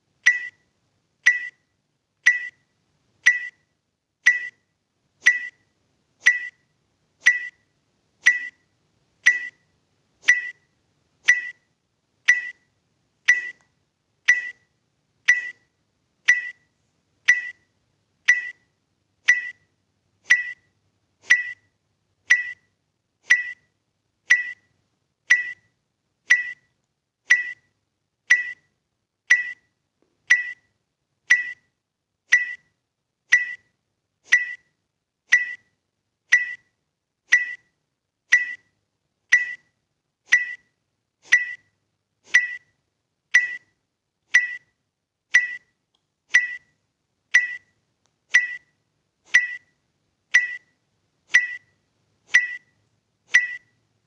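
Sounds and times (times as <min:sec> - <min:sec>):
electronic timer ticks: 0:00.2 - 0:02.6, 0:03.2 - 0:03.6, 0:04.2 - 0:08.6, 0:09.2 - 0:12.7, 0:13.3 - 0:14.7, 0:15.3 - 0:15.7, 0:16.3 - 0:18.7, 0:19.3 - 0:19.7, 0:20.3 - 0:20.7, 0:21.3 - 0:21.7, 0:22.3 - 0:22.7, 0:23.3 - 0:23.7, 0:24.3 - 0:24.7, 0:25.3 - 0:30.7, 0:31.3 - 0:53.8.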